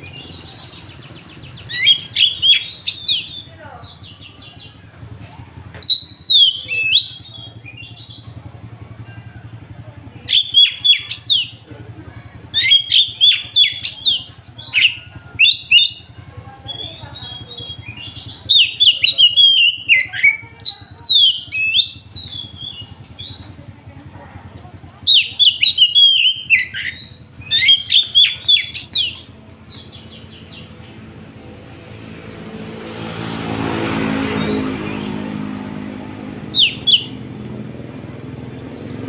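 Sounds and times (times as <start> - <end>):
magpie-robin singing: 0.0 - 31.2, 36.4 - 37.3, 38.2 - 39.0.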